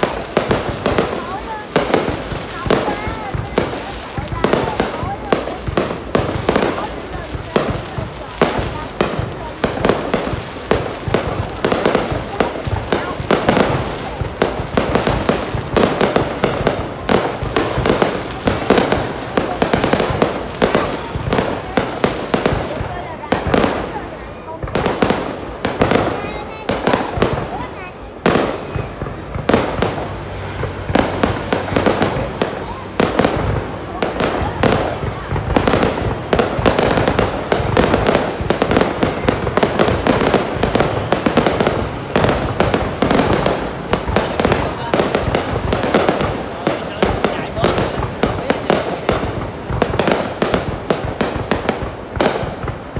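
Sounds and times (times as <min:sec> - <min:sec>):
firework bangs and launch thumps: 0:00.0 - 0:52.9.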